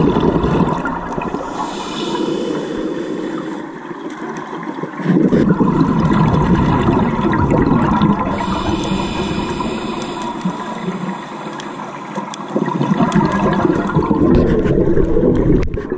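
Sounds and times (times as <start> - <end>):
exhaled bubbles rushing underwater: 0.0 - 15.9.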